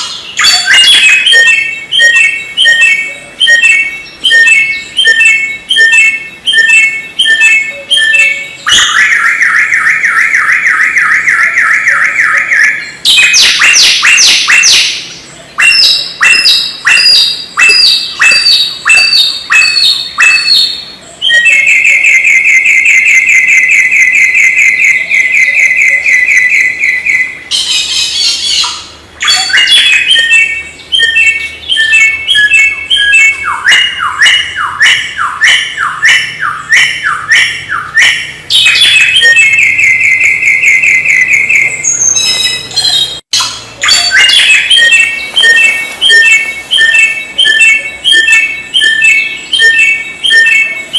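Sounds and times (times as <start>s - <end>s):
harsh bird call: 0.0s - 50.9s
songbird singing: 0.0s - 50.9s.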